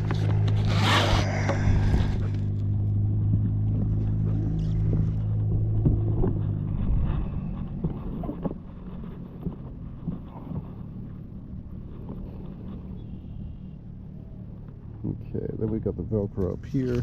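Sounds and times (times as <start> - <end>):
low engine hum: 0.0 - 17.0
wind rumble on microphone: 0.0 - 17.0.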